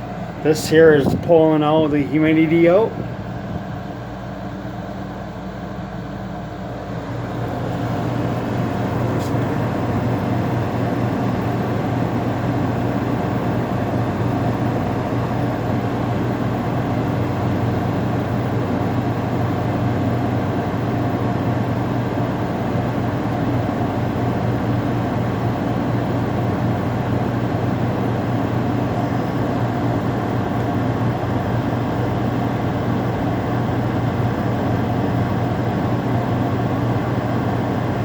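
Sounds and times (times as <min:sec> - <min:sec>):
low compressor hum: 0:00.0 - 0:19.2, 0:22.3 - 0:38.0
air conditioner fan blowing: 0:00.0 - 0:38.0.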